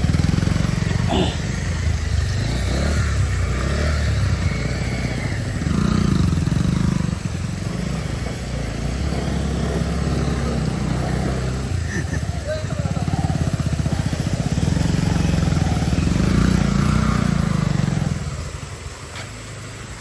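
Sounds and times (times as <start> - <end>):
motorcycle engines at low speed: 0.0 - 20.0.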